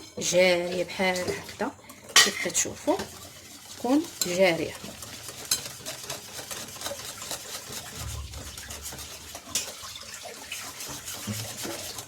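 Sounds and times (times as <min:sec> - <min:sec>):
utensil stirring batter in a bowl: 0:00.0 - 0:12.0.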